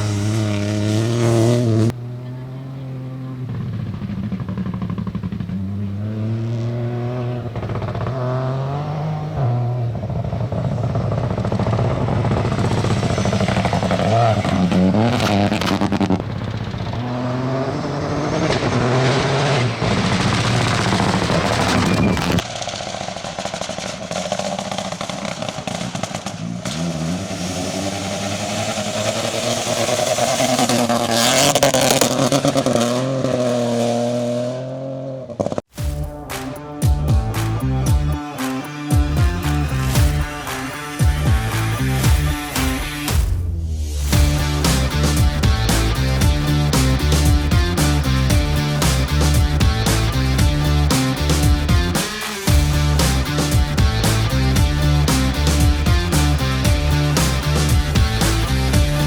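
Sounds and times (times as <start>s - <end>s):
car engine revving: 0.0s - 59.0s
tyre and road noise: 0.0s - 59.0s.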